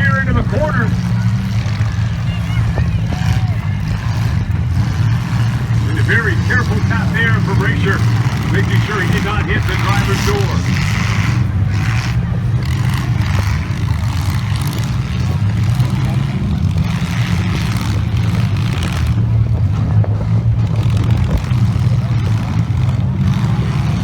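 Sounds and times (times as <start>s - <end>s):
car engines droning: 0.0s - 24.0s.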